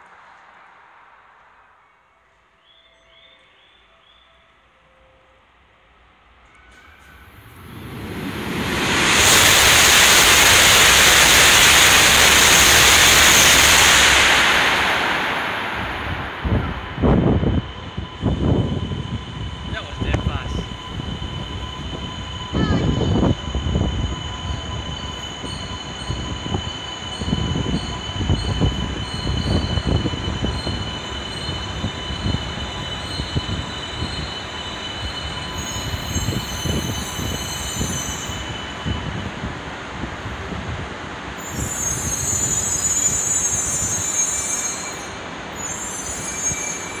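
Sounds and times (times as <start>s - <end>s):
high-speed train rushing past: 0.0s - 47.0s.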